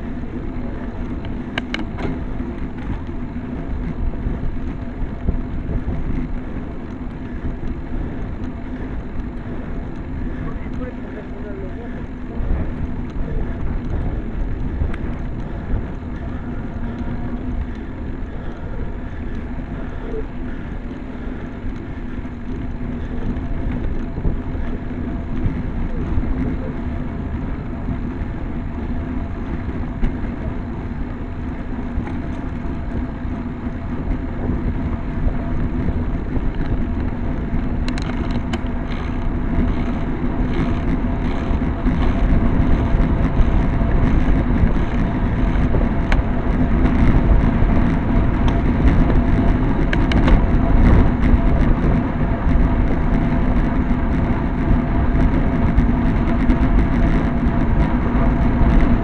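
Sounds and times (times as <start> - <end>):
hum: 0.0 - 59.0
tyre noise on tarmac: 0.0 - 59.0
wind rumbling on microphone: 0.0 - 59.0.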